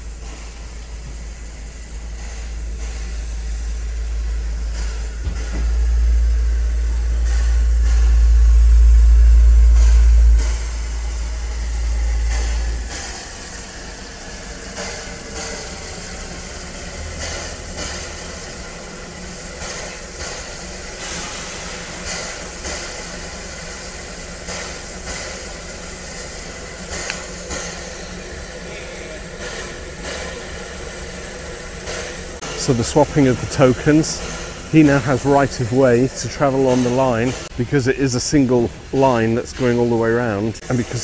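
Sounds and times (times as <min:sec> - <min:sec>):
locomotive low rumble: 0:00.0 - 0:41.0
steam hissing: 0:00.0 - 0:41.0.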